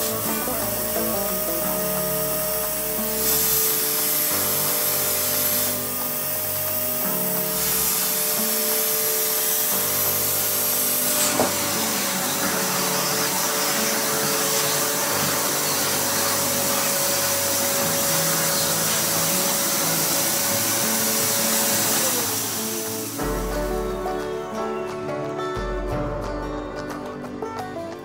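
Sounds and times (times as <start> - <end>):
vacuum cleaner running: 0.0 - 24.9
high whine: 0.0 - 27.0.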